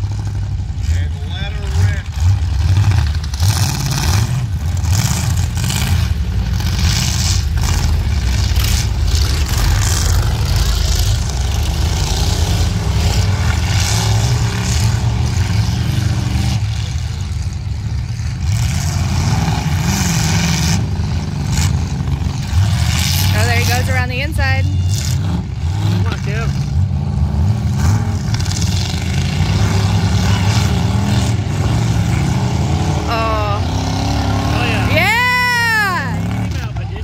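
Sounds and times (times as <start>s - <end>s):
car engines revving and racing: 0.0s - 37.0s.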